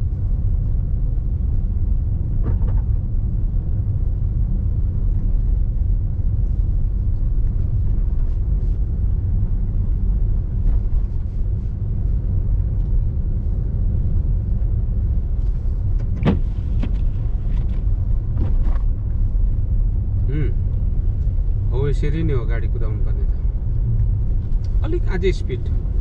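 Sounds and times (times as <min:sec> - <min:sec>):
car driving rumble: 0:00.0 - 0:26.0.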